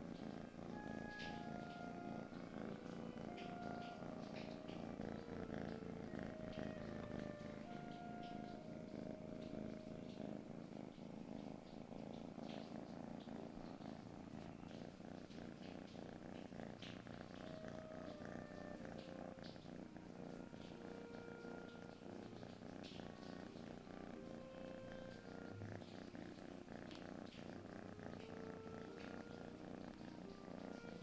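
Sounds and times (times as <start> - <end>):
kitten purring: 0.0 - 31.0.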